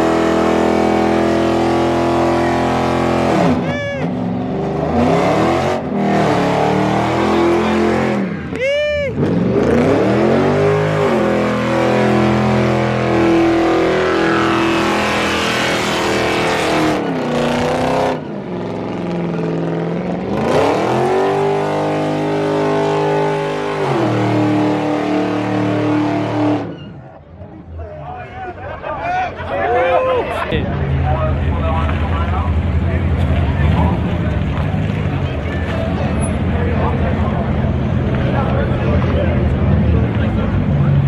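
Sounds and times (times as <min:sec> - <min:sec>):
car engine revving: 0:00.0 - 0:08.6, 0:09.2 - 0:26.8, 0:30.7 - 0:41.0.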